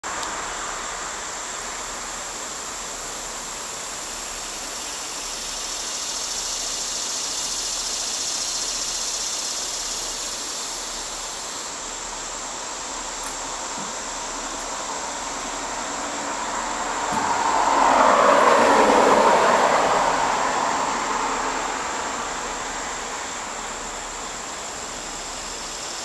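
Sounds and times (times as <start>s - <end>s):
broad hiss: 0.0s - 26.0s
high-pitched insect chorus: 0.0s - 26.0s.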